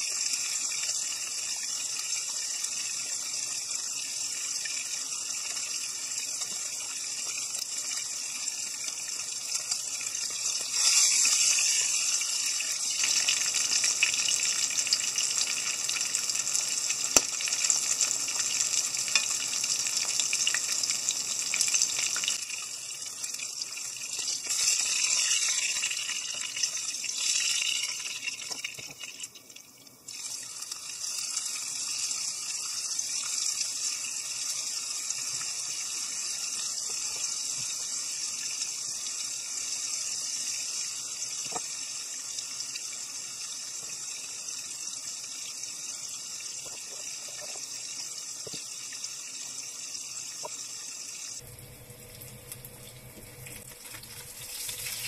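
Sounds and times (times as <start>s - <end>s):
fish sizzling in a frying pan: 0.0s - 55.0s.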